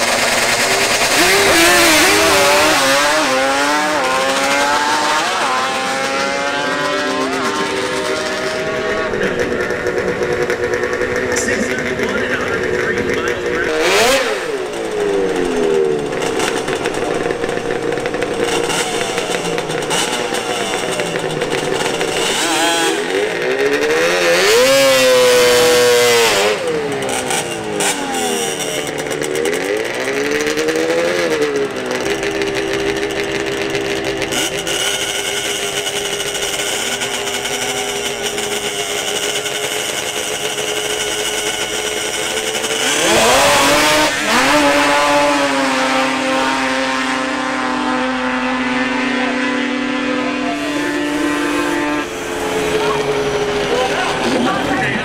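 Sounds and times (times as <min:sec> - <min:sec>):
quad engines revving: 0:00.0 - 0:55.0.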